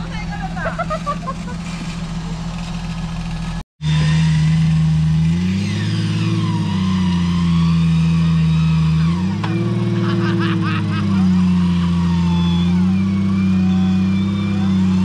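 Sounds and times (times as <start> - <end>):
engine straining at high revs: 0.0 - 15.0.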